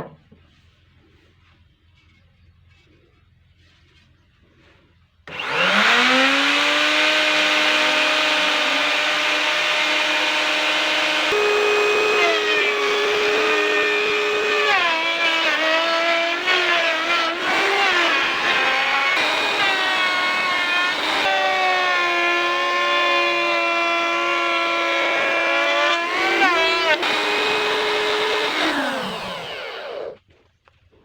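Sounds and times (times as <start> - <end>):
electric router motor whining: 5.3 - 30.2.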